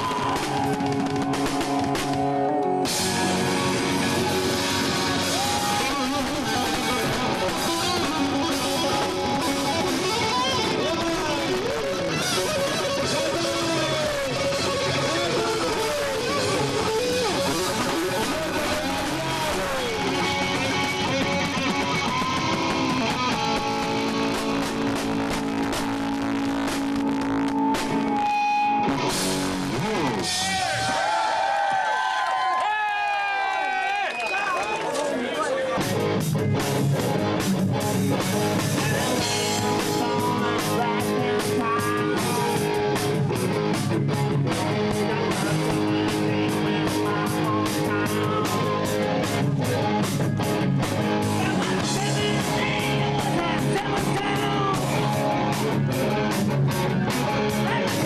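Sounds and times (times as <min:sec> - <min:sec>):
electric guitar with bending notes: 0:00.0 - 0:31.0, 0:35.6 - 0:58.0
live rock band playing: 0:00.0 - 0:31.0, 0:35.5 - 0:58.0.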